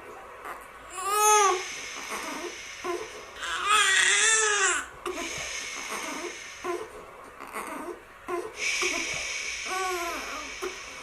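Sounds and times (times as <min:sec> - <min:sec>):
baby crying: 0:00.5 - 0:09.1, 0:09.7 - 0:10.6
steady high hiss: 0:00.8 - 0:11.0.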